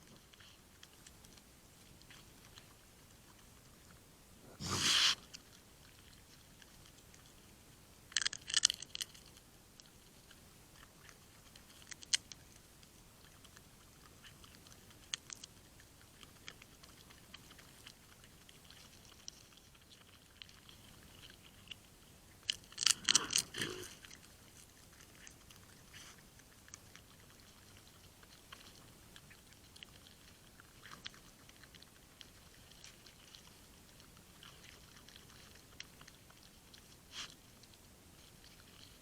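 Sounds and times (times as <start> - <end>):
animal crunching food: 0.0 - 7.5, 8.1 - 39.0.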